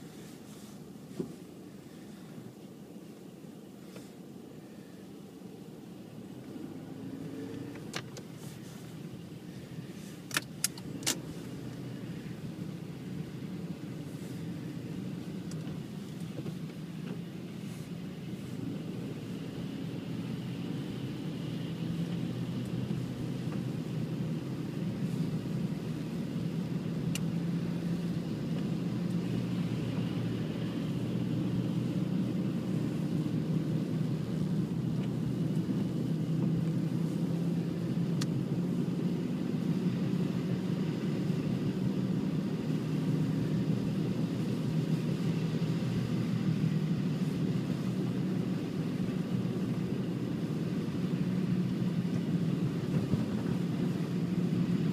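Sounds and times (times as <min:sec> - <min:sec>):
low rumble with faint hum: 0:00.0 - 0:54.9.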